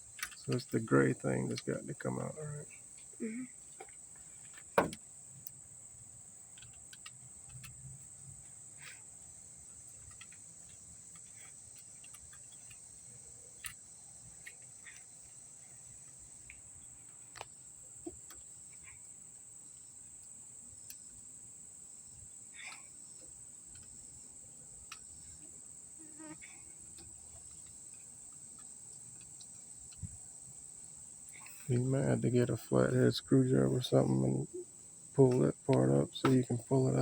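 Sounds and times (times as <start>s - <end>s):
crickets chirring: 0.0s - 37.0s.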